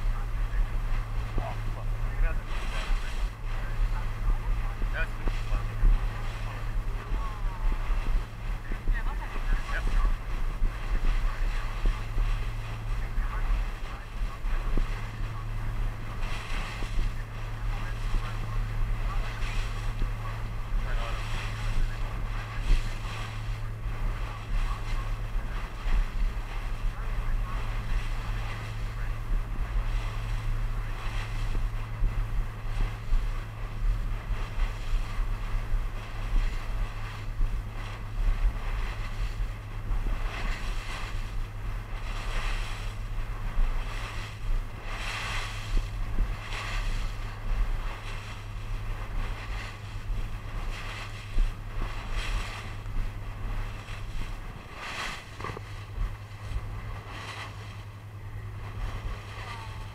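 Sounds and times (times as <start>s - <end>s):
motorboat engine droning: 0.0s - 59.9s
water splashing against hull: 0.0s - 59.9s
wind buffeting microphone: 0.0s - 59.9s.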